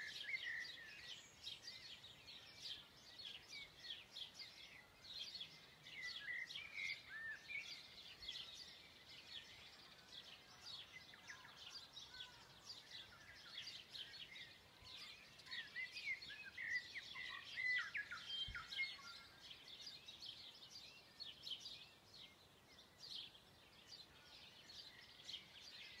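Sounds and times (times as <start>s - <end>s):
forest birds chirping: 0.0s - 26.0s.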